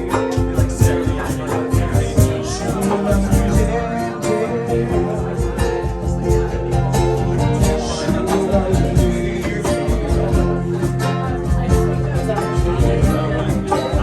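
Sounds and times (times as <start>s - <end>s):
guitar playing: 0.0s - 14.0s
steady drum beat: 0.0s - 14.0s.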